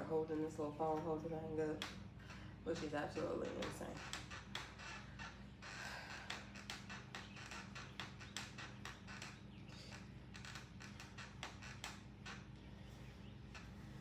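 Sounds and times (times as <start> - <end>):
exercise bike hum: 0.0 - 14.0.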